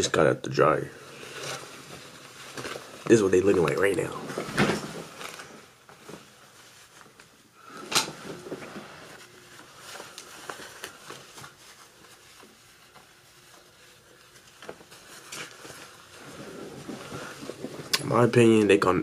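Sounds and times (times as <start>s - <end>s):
fabric rustling: 0.0s - 18.7s.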